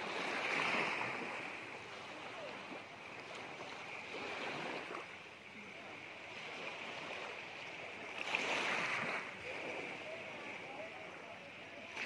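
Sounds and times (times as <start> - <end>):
water lapping at shore: 0.0 - 12.0
water rushing: 0.0 - 12.0.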